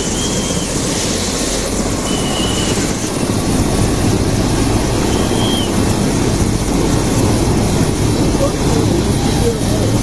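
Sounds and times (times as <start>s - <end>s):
helicopter turbine and rotor: 0.0s - 10.0s.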